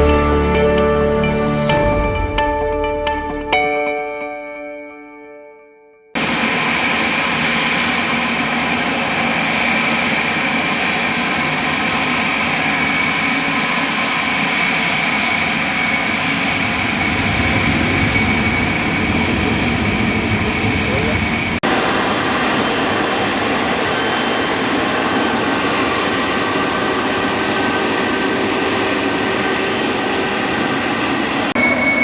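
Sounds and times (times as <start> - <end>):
jet airliner engines running: 6.2 - 32.0.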